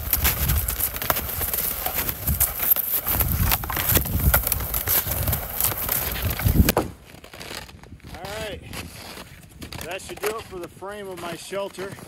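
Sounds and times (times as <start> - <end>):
branches cracking and snapping: 0.0 - 10.6.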